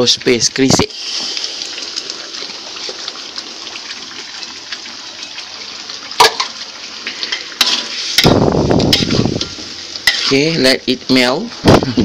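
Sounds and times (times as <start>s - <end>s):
spice paste sizzling in a wok: 0.9s - 11.7s.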